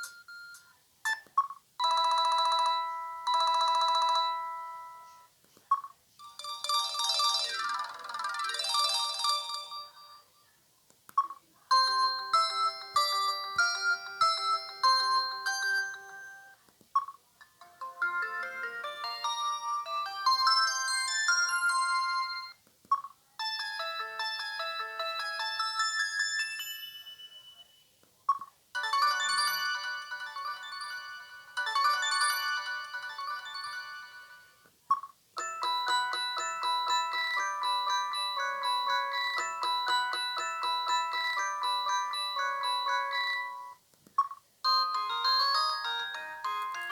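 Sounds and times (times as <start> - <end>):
mobile phone polyphonic ringtones: 0.0 - 1.2, 1.8 - 5.3, 6.2 - 10.4, 11.7 - 27.8, 28.8 - 46.9.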